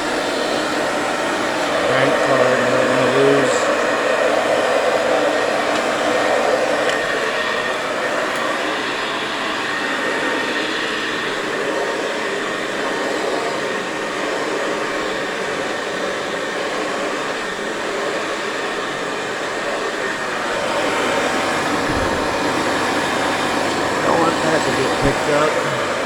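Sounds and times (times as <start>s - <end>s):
vacuum cleaner on carpet: 0.0s - 26.0s.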